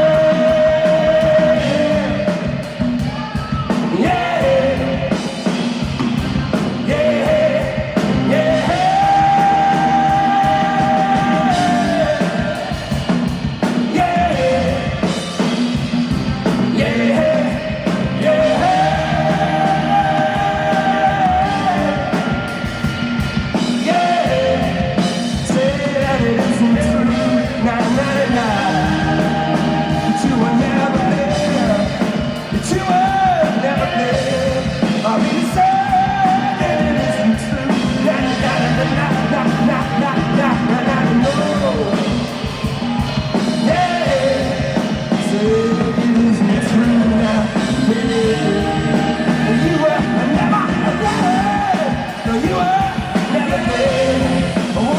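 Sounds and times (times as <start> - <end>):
live band playing: 0.0 - 54.9
wordless singing: 0.0 - 54.9.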